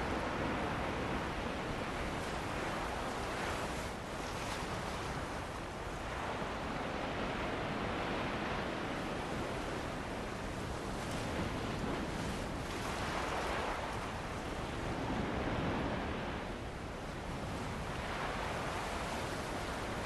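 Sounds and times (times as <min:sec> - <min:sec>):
ocean surf washing onto beach: 0:00.0 - 0:20.0
steady wind: 0:00.0 - 0:20.0.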